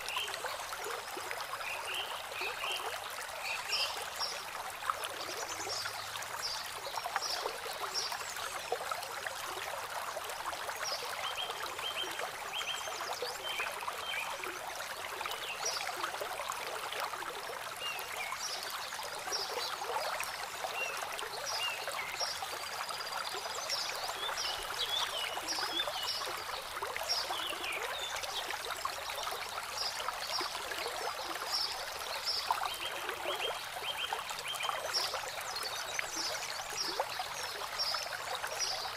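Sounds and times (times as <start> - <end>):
stream babbling over pebbles: 0.0 - 38.9.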